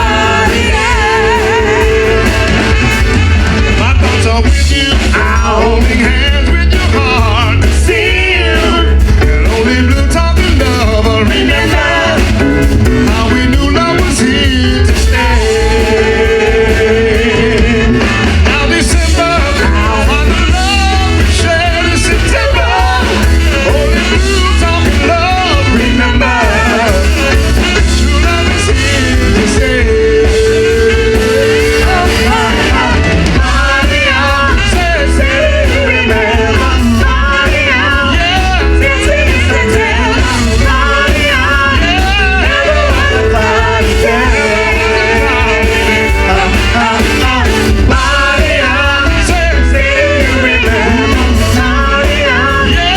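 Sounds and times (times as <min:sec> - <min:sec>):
drums and bass beat: 0:00.0 - 0:52.9
live band playing: 0:00.0 - 0:52.9
person singing: 0:00.0 - 0:52.9.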